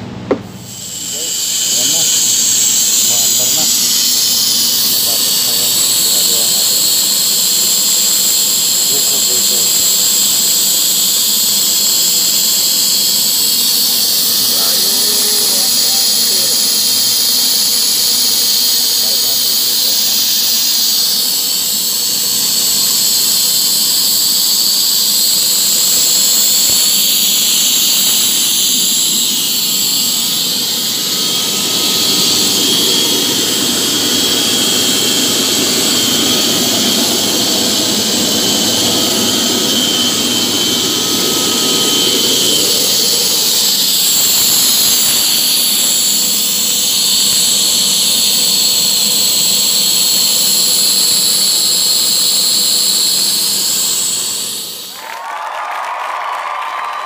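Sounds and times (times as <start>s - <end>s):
air compressor hissing and whining: 0.0s - 55.0s.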